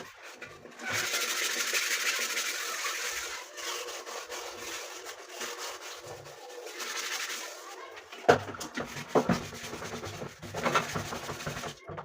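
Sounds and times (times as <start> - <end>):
rough scrubbing: 0.0 - 11.8.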